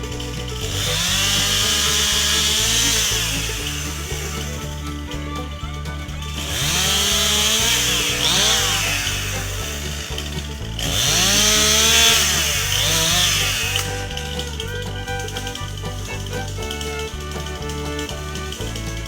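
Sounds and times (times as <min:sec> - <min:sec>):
background music with bass line: 0:00.0 - 0:19.0
chainsaw revving and cutting wood: 0:00.0 - 0:19.0.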